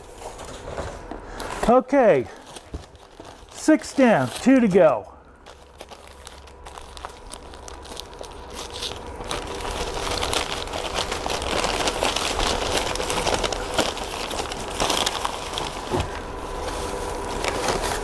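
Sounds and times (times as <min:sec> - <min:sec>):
newspaper crumpling and crinkling: 0:00.0 - 0:18.0.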